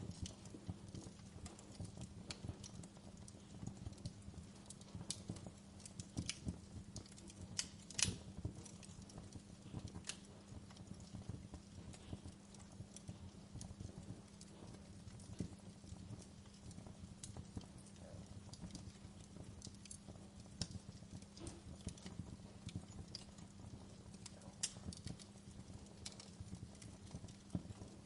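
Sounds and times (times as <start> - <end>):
low steady hum: 0.0 - 28.0
wood fire crackling: 0.0 - 28.0.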